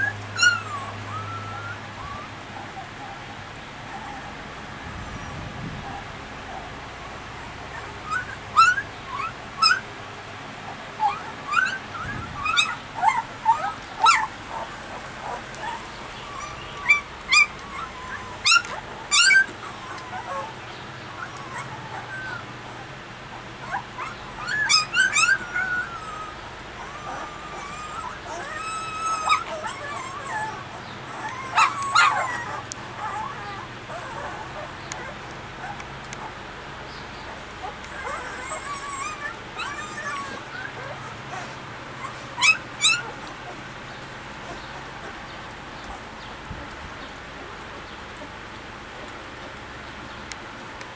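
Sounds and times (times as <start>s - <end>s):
puppies crying: 0.0s - 50.7s.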